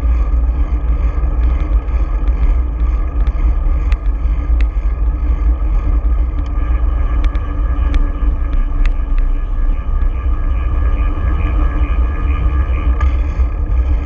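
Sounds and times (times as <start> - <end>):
bicycle clicks: 0.0 - 14.0
road noise: 0.0 - 14.0
wind rumble: 0.0 - 14.0.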